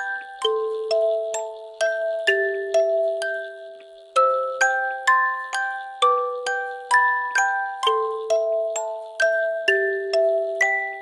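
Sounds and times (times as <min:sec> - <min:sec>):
bell-like struck notes melody: 0:00.0 - 0:11.0.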